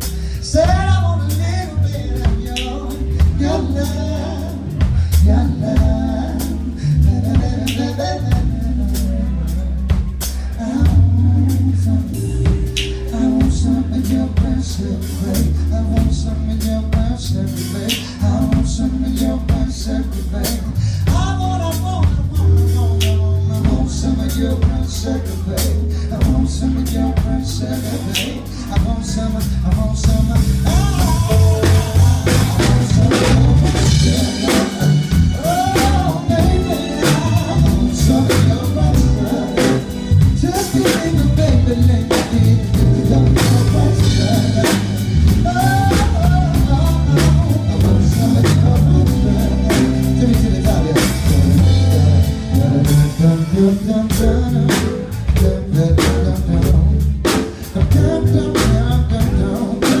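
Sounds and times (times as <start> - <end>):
drum kit beat: 0.0 - 60.0
person singing into a microphone: 0.0 - 60.0
strong bass line: 0.0 - 60.0.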